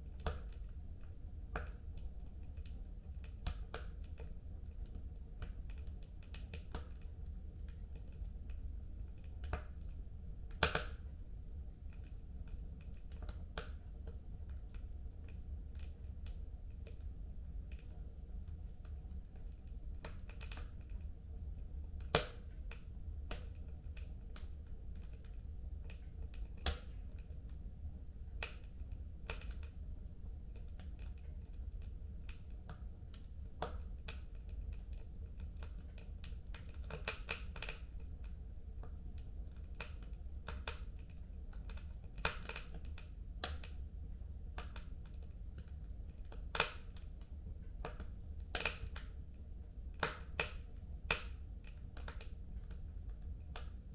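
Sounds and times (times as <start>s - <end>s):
fire pops and snaps: 0.0s - 11.2s, 11.8s - 53.9s
wood fire crackling: 0.0s - 53.9s.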